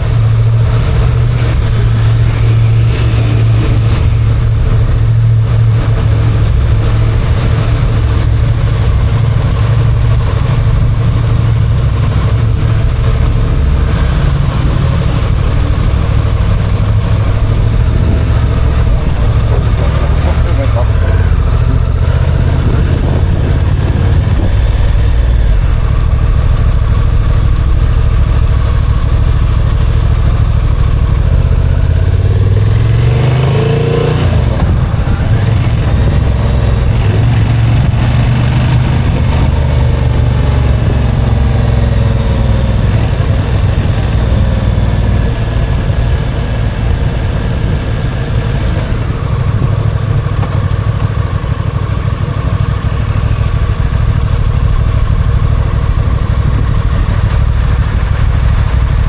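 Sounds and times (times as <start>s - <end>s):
motorcycle engine revving: 0.0s - 59.0s
motorcycle engines running: 0.0s - 59.0s.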